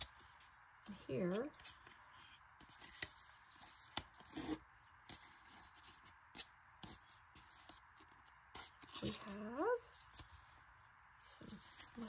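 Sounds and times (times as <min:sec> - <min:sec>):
paper rustling: 0:00.0 - 0:10.5.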